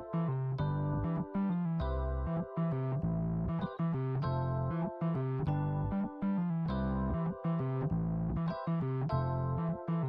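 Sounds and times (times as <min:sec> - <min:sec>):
electric piano music: 0:00.0 - 0:10.0
steady bass: 0:00.0 - 0:10.0.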